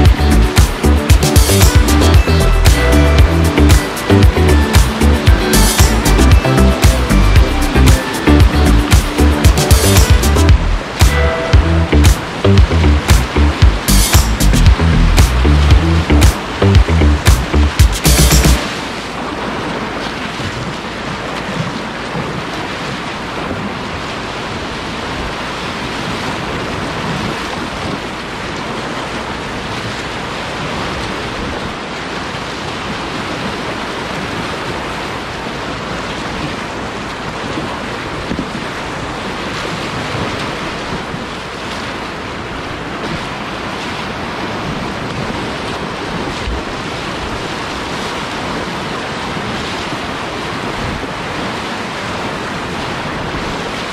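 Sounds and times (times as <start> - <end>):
river rapids rushing: 0.0 - 53.9.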